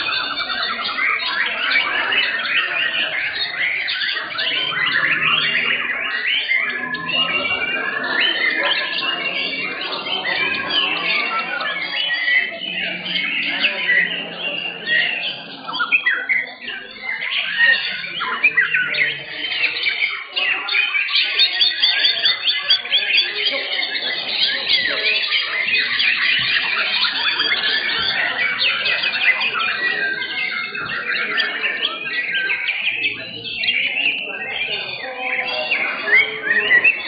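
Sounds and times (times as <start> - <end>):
many birds chirping and whistling: 0.0 - 37.0.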